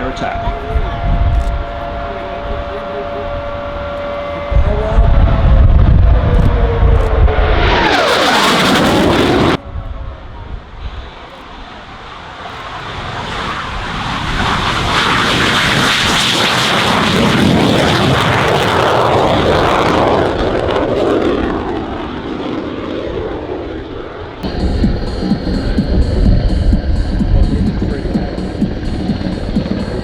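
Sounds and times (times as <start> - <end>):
jet flying past: 0.0 - 30.0.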